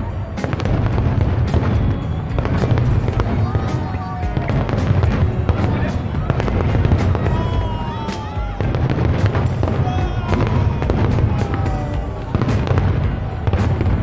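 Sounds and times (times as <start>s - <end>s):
fireworks bangs and crackles: 0.0s - 14.0s
music: 0.0s - 14.0s.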